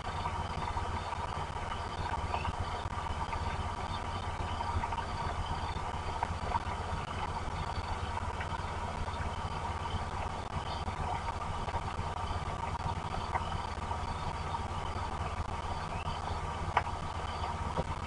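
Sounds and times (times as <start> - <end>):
heavy rain falling: 0.0 - 18.0
low rumble: 0.0 - 18.0.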